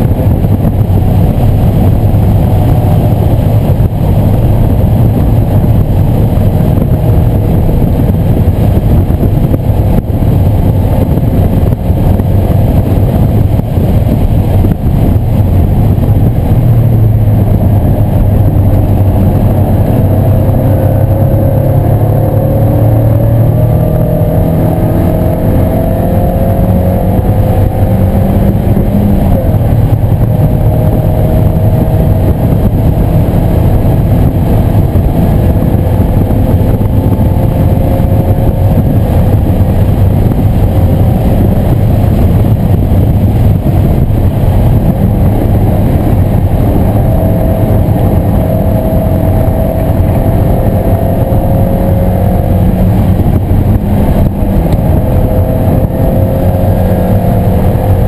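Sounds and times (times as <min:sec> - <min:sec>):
car engine running hard: 0:00.0 - 0:58.0
heavy low rumble: 0:00.0 - 0:58.0.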